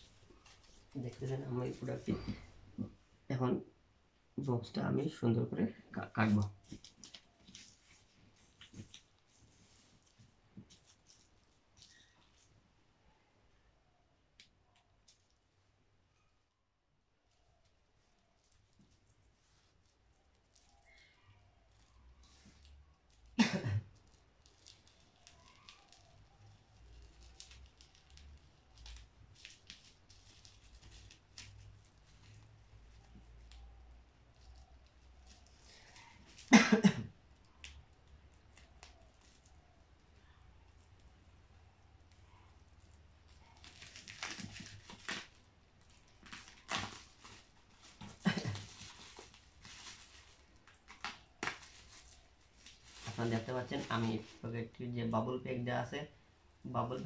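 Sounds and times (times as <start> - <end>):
bubble wrap crinkling and clicking: 0.0 - 3.0, 6.0 - 12.6, 14.3 - 15.6, 17.2 - 54.8.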